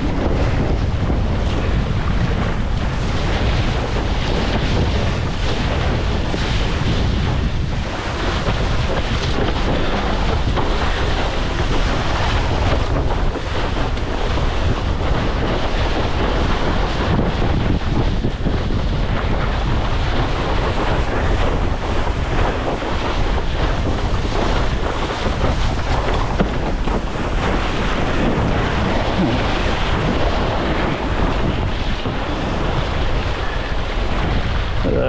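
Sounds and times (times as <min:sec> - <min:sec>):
water rushing and splashing: 0:00.0 - 0:35.0
wind buffeting microphone: 0:00.0 - 0:35.0.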